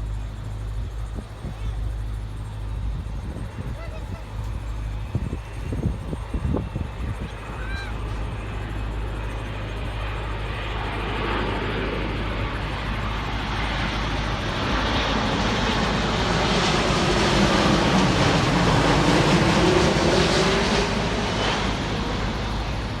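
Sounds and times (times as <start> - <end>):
jet airliner passing over: 0.0 - 23.0.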